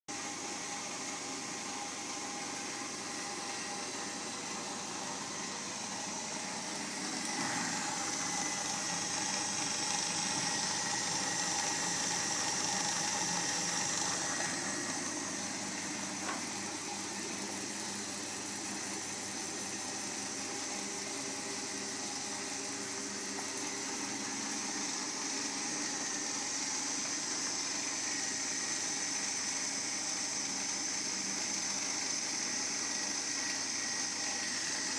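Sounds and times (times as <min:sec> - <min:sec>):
bandsaw motor whirring: 0:00.3 - 0:34.9.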